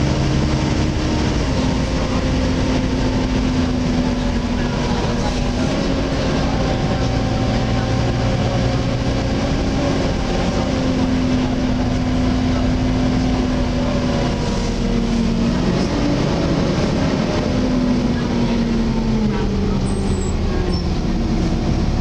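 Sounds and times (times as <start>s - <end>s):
diesel bus engine: 0.0s - 22.0s.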